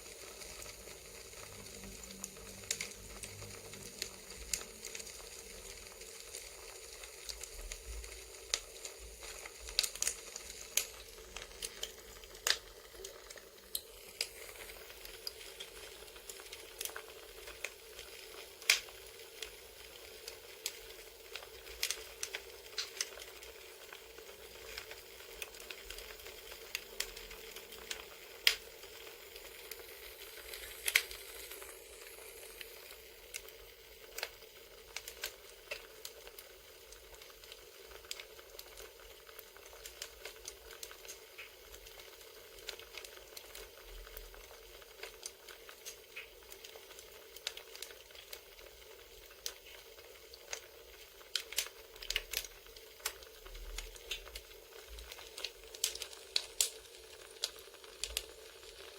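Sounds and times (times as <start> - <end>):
crackling campfire: 0.0 - 58.9.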